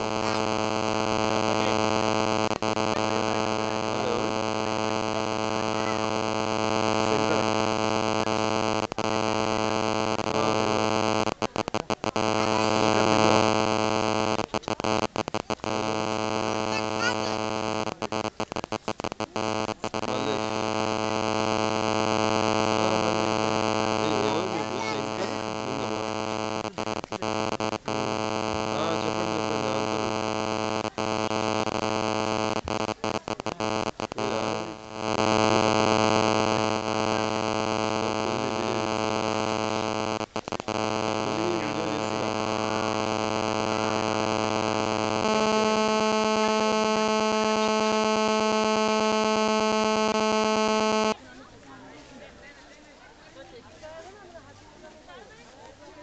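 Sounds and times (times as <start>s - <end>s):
electronic buzz: 0.0s - 51.2s.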